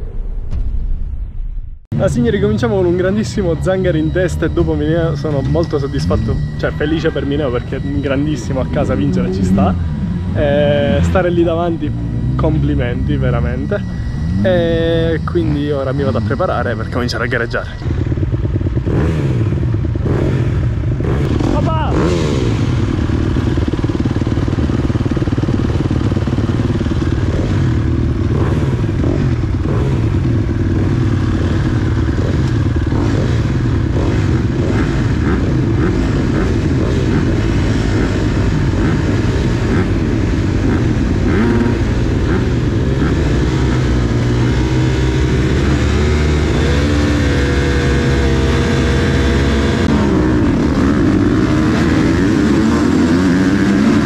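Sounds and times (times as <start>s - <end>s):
motorcycle engines revving: 1.9s - 54.0s.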